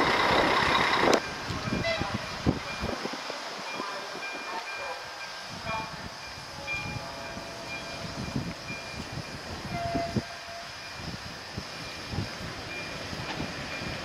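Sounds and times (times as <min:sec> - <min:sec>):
train rumbling over points: 0:00.0 - 0:14.0.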